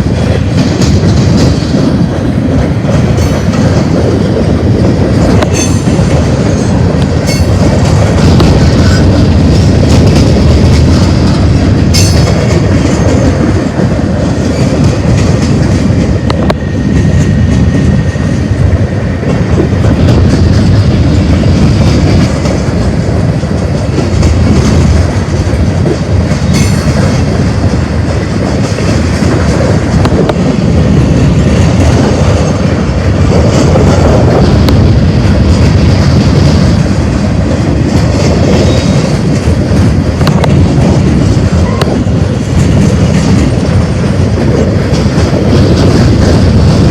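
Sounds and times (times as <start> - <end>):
clickety-clack over rail joints: 0.0 - 46.9
train wheels rumbling on rails: 0.0 - 46.9.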